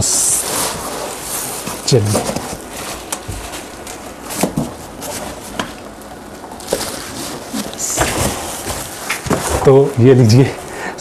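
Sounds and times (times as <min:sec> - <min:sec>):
plastic wrap crinkling: 0:00.4 - 0:10.0.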